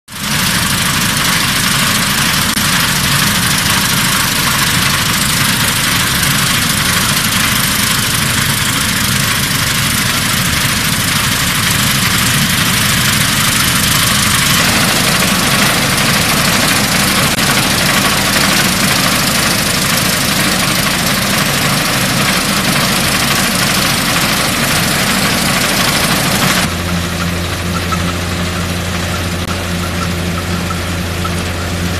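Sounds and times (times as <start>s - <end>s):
threshing machinery rushing: 0.1s - 31.9s
tractor diesel engine running: 0.1s - 31.9s.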